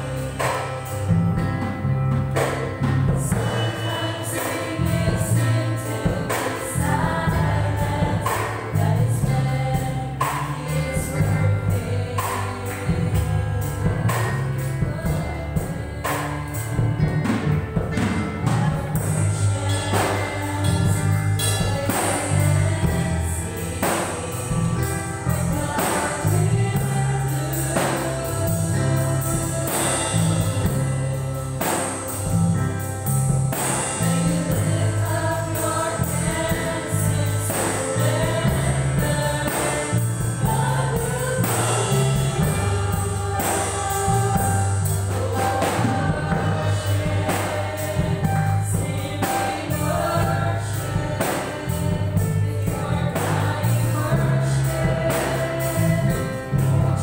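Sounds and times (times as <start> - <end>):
bass line: 0.0 - 57.0
drum kit: 0.0 - 57.0
electronic keyboard: 0.0 - 57.0
women singing: 0.0 - 57.0.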